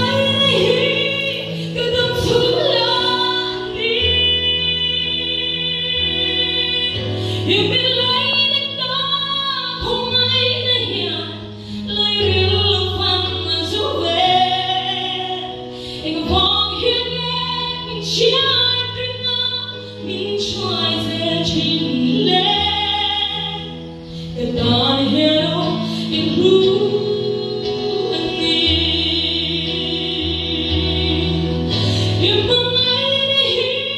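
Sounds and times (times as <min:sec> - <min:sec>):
woman singing into microphone: 0:00.0 - 0:33.9.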